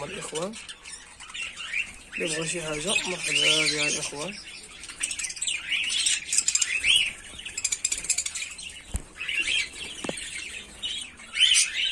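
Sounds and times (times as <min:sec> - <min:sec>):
budgerigars chattering: 0:00.0 - 0:11.9.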